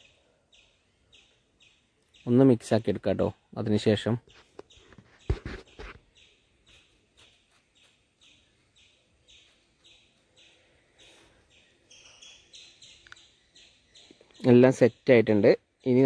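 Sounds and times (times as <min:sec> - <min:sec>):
faint regular chirping: 0:00.0 - 0:16.0.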